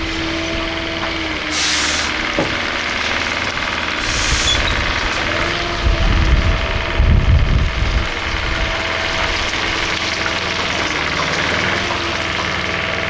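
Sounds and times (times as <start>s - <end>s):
lorry engine running: 0.0s - 13.0s.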